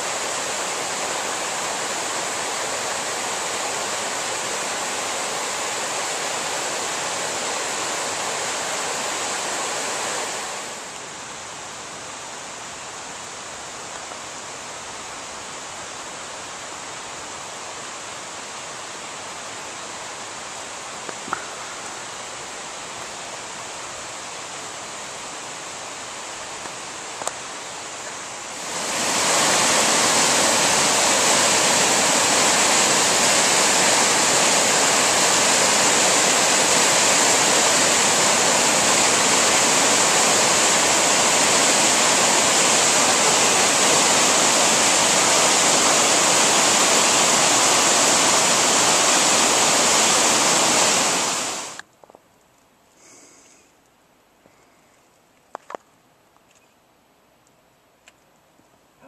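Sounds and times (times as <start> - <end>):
waterfall rushing: 0.0 - 51.8.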